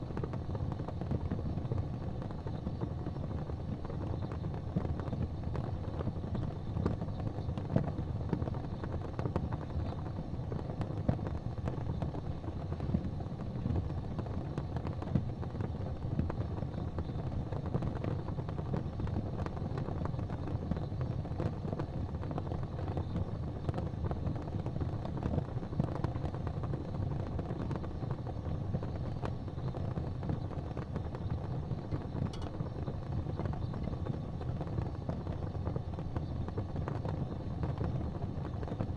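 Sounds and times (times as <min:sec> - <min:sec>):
fire burning in fireplace: 0:00.0 - 0:38.9
fire crackles and pops: 0:00.0 - 0:38.9.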